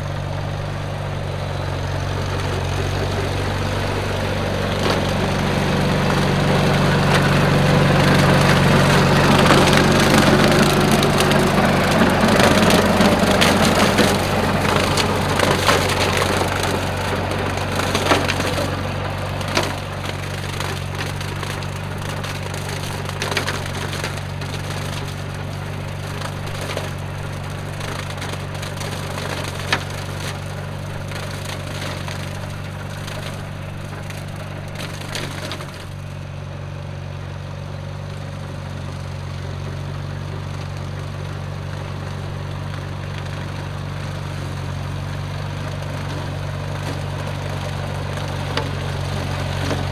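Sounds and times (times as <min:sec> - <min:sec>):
rotary cutter shredding stalks: 0:00.0 - 0:49.9
tractor engine running: 0:00.0 - 0:49.9.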